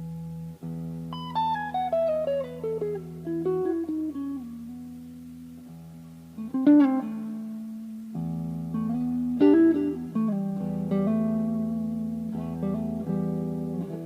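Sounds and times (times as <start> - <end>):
electric guitar chord: 0.0 - 14.0
electric guitar single notes: 0.0 - 14.0.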